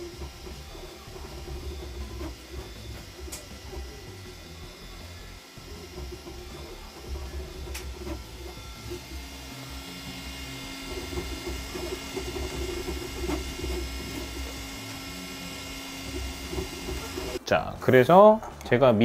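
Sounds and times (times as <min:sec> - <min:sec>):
stepper motors whirring: 0:00.0 - 0:17.4
fan hum: 0:00.0 - 0:18.8.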